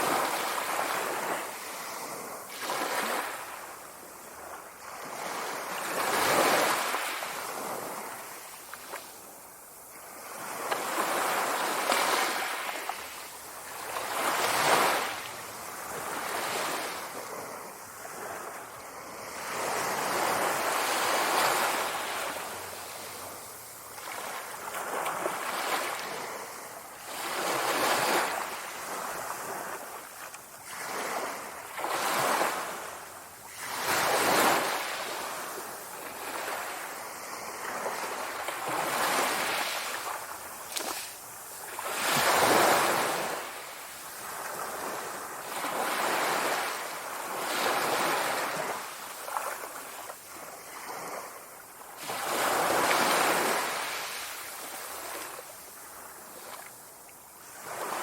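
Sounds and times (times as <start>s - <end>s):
sea waves breaking: 0.0s - 9.2s, 10.0s - 51.4s.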